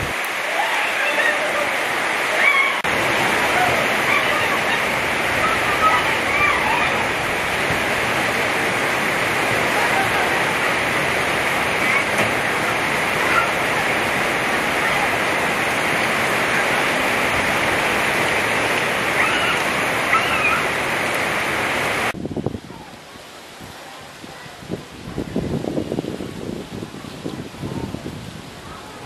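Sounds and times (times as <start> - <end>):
gusting wind: 0.0 - 29.0
heavy rain on a tin roof: 0.0 - 29.0.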